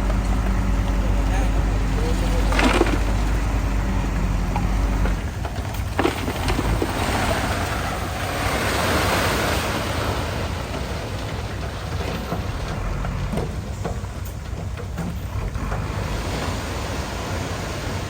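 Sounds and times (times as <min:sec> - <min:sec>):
bulldozer diesel engine drone: 0:00.0 - 0:18.0.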